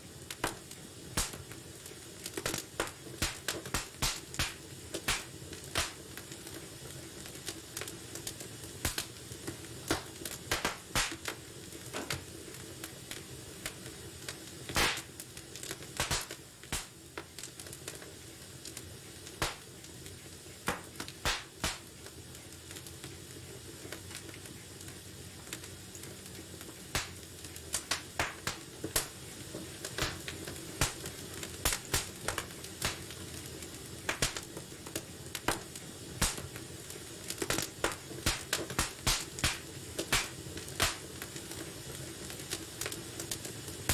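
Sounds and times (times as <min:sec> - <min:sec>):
fire crackling in fireplace: 0:00.0 - 0:43.9.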